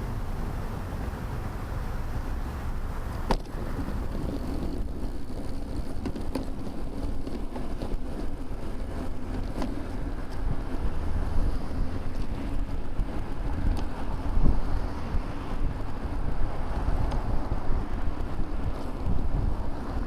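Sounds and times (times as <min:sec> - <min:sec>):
road rumble: 0:00.0 - 0:20.0
wind buffeting microphone: 0:00.0 - 0:20.0.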